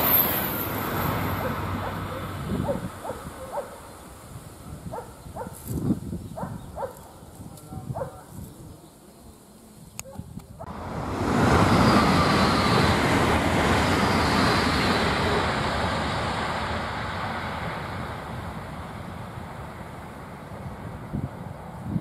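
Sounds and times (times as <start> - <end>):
high-speed train passing: 0.0 - 7.0, 10.6 - 22.0.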